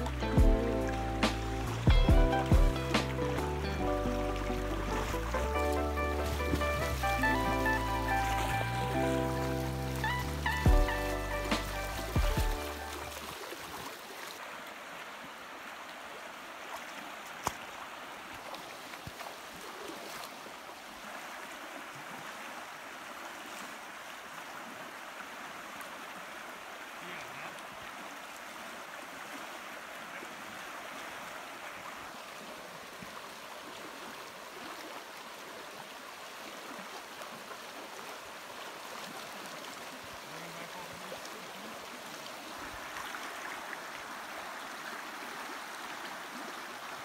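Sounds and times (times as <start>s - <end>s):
river water rushing over riffles: 0.0s - 47.0s.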